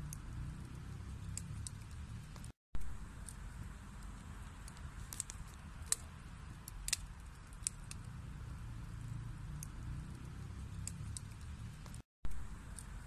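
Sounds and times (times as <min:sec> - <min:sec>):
wood fire burning: 0:00.0 - 0:13.0.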